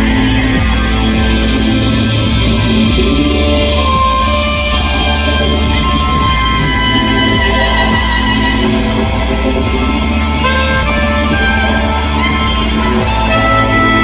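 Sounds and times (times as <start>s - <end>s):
live rock band playing: 0.0s - 14.0s
soprano saxophone melody: 0.0s - 14.0s.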